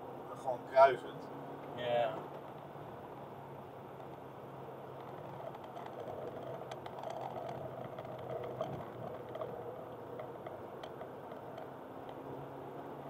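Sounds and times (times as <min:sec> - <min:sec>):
car engine hum: 0:00.0 - 0:13.0
road and tyre noise: 0:00.0 - 0:13.0
light ticks and rattles: 0:01.6 - 0:13.0.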